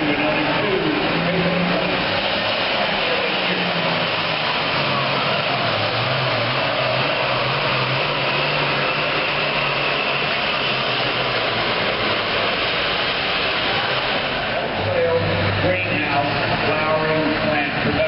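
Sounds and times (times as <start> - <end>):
diesel engine running loud: 0.0 - 18.0.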